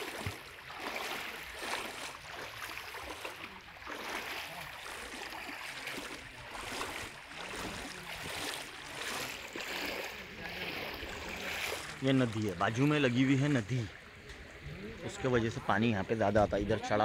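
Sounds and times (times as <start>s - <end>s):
feet wading through water: 0.0s - 15.3s.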